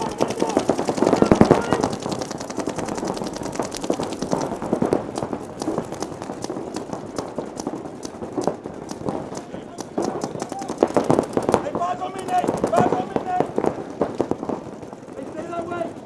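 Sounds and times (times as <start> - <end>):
paintball markers firing rapidly: 0.0 - 16.0.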